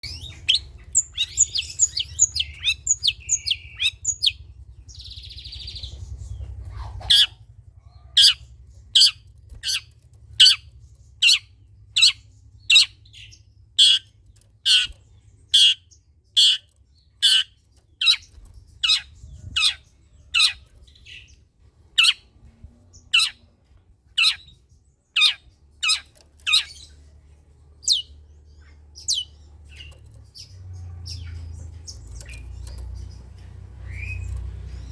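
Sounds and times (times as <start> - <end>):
bird chirping and squawking: 0.0 - 7.4, 8.0 - 21.3, 22.0 - 22.3, 23.0 - 23.5, 24.1 - 27.0, 27.8 - 34.9
faint low hum: 0.0 - 34.9.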